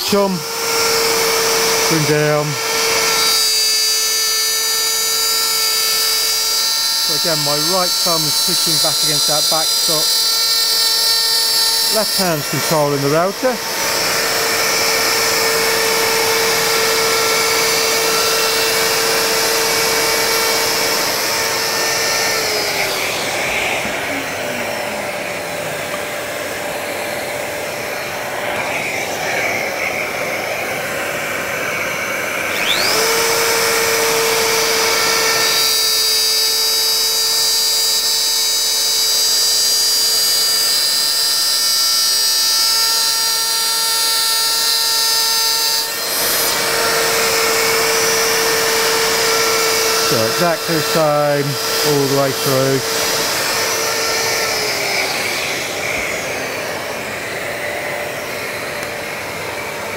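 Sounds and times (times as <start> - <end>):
router motor whining: 0.0 - 59.9.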